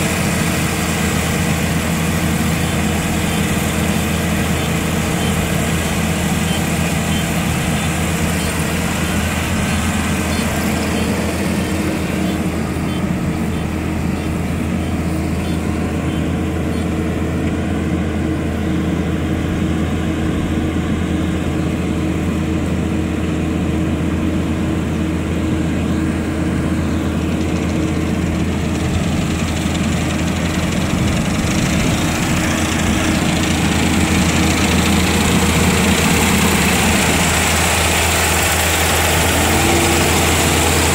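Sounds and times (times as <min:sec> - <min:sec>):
combine harvester engine humming: 0:00.0 - 0:40.9.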